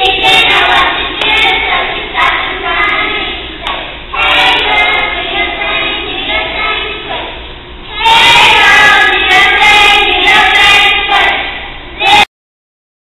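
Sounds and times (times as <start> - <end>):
children singing: 0.0 - 12.3.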